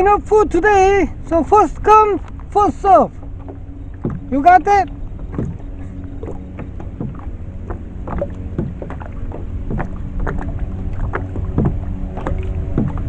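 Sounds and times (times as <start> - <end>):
low rumble of water and wind: 0.0 - 13.0
water drips and plinks: 1.8 - 13.0.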